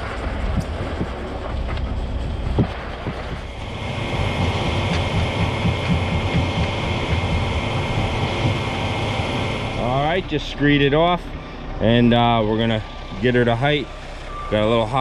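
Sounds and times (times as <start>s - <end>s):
concrete mixer truck running: 0.0s - 15.0s.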